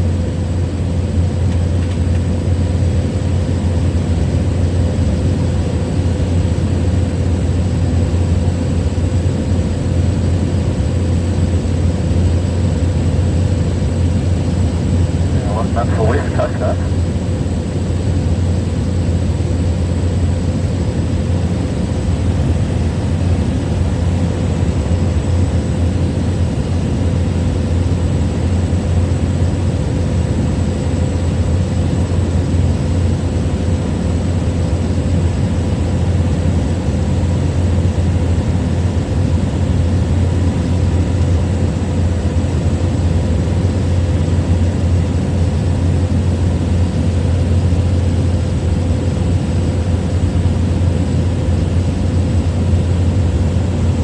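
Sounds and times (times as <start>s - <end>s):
small plane engine and propeller: 0.0s - 54.0s.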